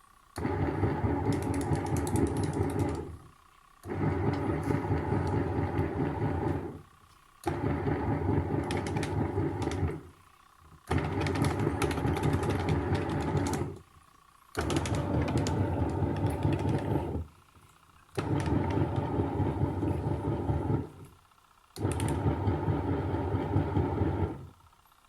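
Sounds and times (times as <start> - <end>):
washing machine churning: 0.4 - 10.1, 10.8 - 13.8, 14.5 - 17.3, 18.1 - 21.1, 21.8 - 24.6.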